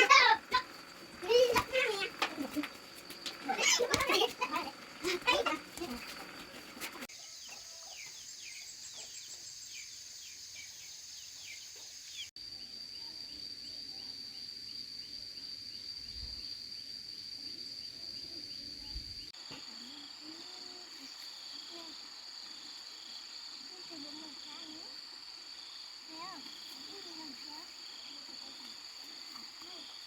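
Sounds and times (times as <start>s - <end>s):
insects whining: 0.0s - 30.0s.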